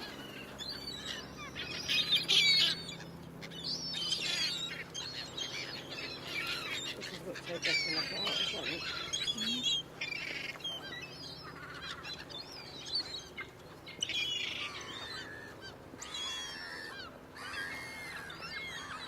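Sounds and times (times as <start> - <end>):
gulls calling: 0.0 - 19.0.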